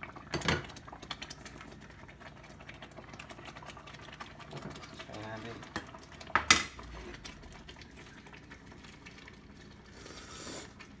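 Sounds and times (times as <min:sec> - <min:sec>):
stew bubbles popping: 0:00.0 - 0:09.8.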